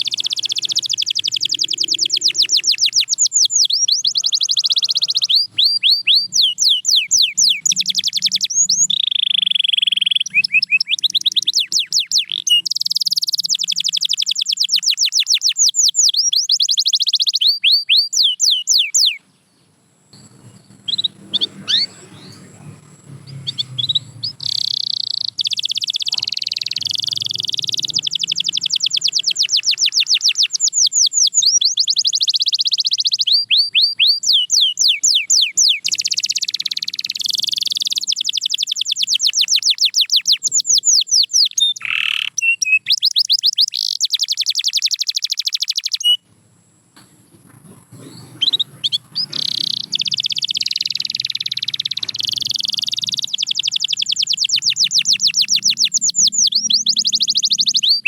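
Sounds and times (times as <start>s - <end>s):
canary singing trills: 0.0s - 46.3s, 47.4s - 58.0s.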